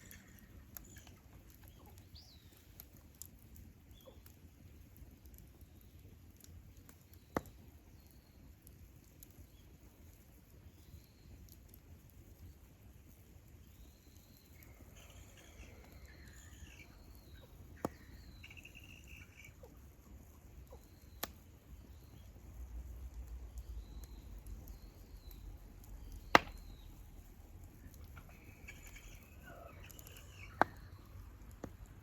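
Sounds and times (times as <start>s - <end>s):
campfire crackling with pops: 0.0s - 32.0s
small birds chirping: 0.0s - 32.0s.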